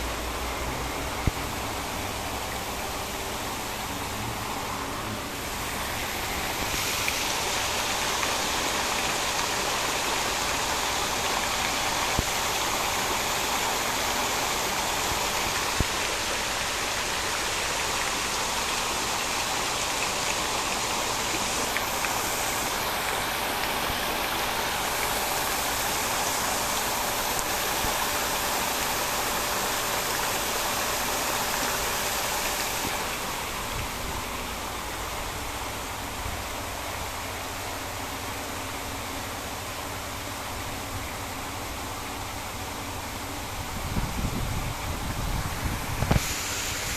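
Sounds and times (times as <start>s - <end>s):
water showering and splashing: 0.0s - 46.9s.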